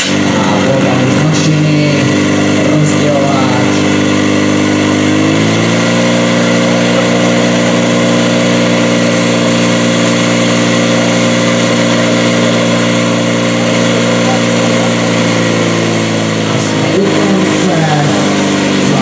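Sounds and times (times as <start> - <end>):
fire pump engine at high revs: 0.0 - 19.0.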